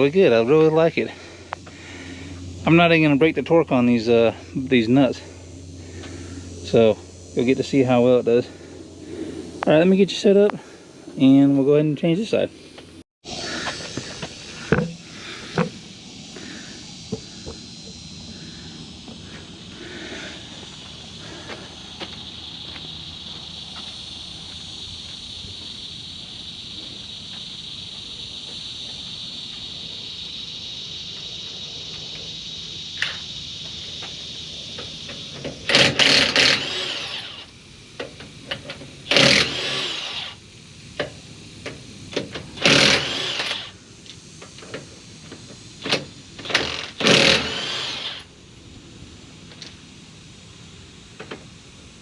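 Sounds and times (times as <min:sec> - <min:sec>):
steady high buzz: 0:00.0 - 0:52.0.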